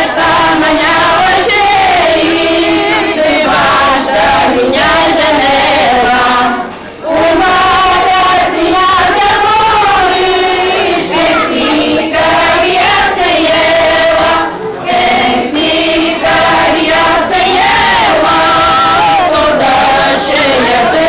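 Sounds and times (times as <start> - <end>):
women singing together: 0.0 - 21.0.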